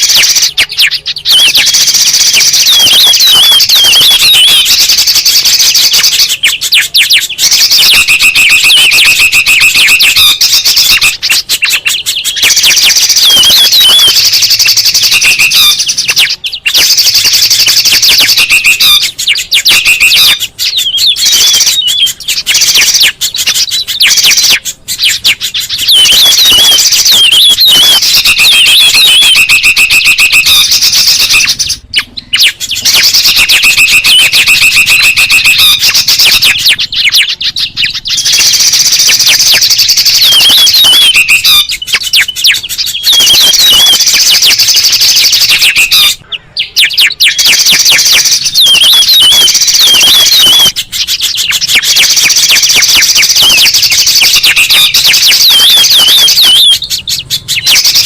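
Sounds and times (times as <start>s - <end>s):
songbird chorus: 0.0s - 58.0s.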